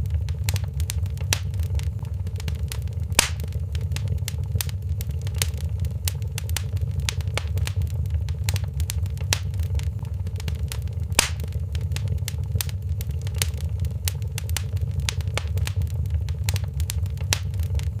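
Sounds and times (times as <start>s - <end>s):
fire pops and snaps: 0.0s - 18.0s
steady low rumble: 0.0s - 18.0s
wood fire crackling: 0.0s - 18.0s.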